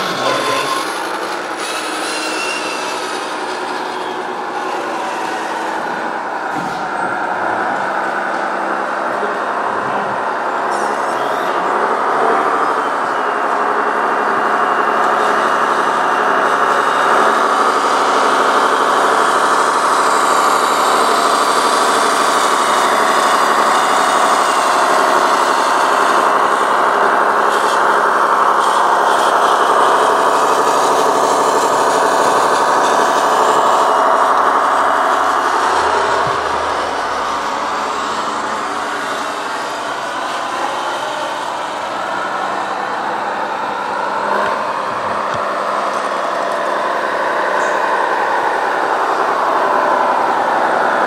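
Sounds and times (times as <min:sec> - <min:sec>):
model truck engine drone: 0:00.0 - 0:51.0.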